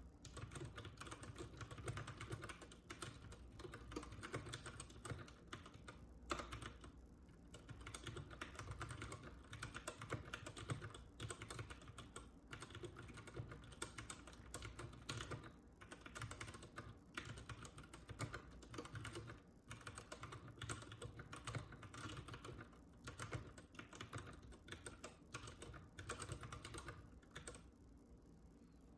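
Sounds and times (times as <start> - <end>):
mechanical keyboard typing: 0.2 - 27.7.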